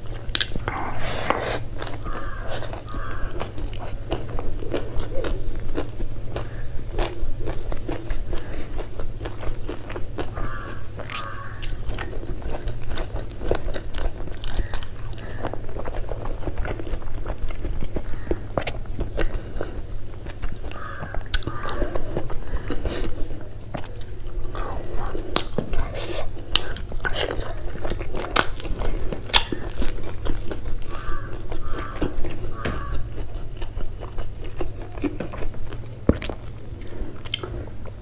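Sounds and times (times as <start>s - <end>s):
close chewing with lip smacks: 0.0s - 38.0s
food crunch: 0.0s - 38.0s.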